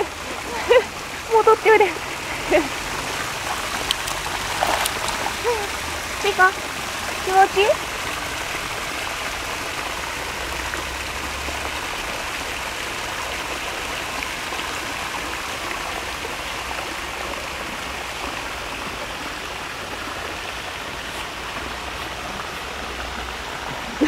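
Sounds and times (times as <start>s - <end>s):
brook water rushing: 0.0s - 24.0s.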